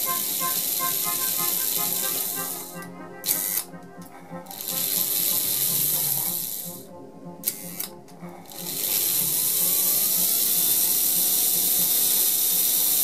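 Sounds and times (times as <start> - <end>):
model locomotive motor whine: 0.0 - 13.0.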